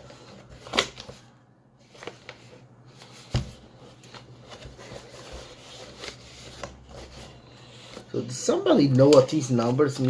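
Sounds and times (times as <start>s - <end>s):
cardboard rustling and scraping: 0.0s - 10.0s.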